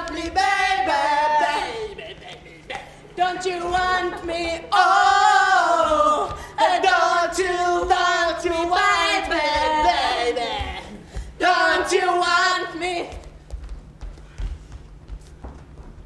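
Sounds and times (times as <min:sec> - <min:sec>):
voices singing unaccompanied: 0:00.0 - 0:13.2.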